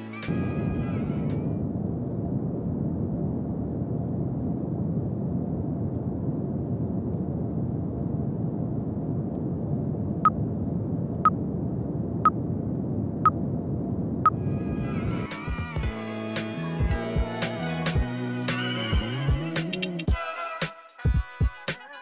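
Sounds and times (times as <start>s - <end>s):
low rushing noise: 0.0s - 19.8s.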